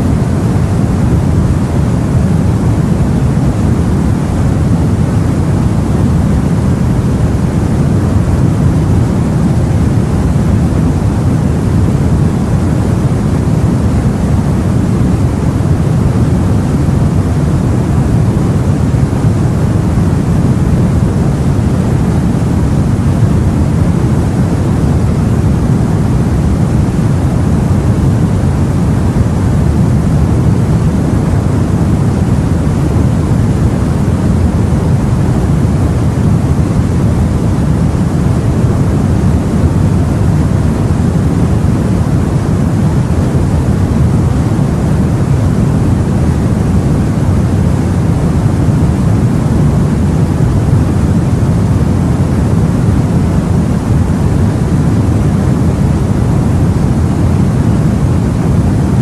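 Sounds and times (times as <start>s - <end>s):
low rumbling sea: 0.0s - 59.0s.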